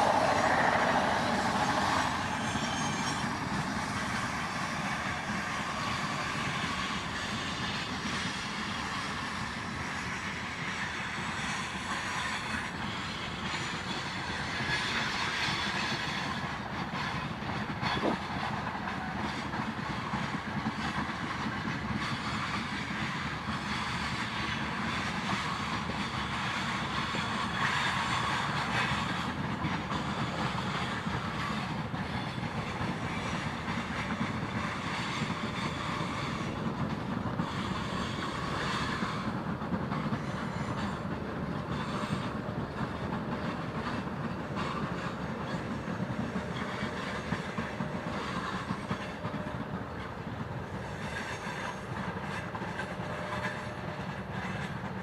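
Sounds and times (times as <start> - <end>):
freight train rolling past: 0.0 - 55.0
wheels clicking over rail joints: 10.6 - 55.0.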